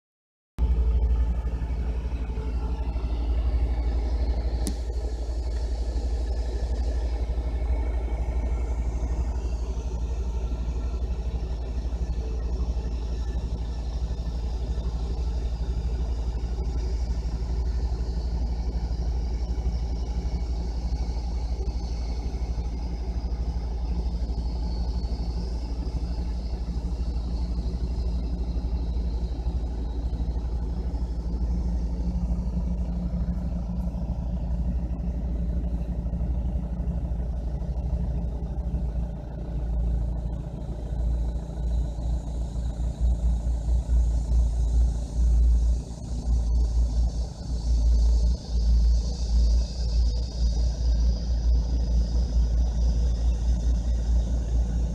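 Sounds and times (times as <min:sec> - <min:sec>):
jet engines rumbling with whine: 0:00.6 - 0:54.9.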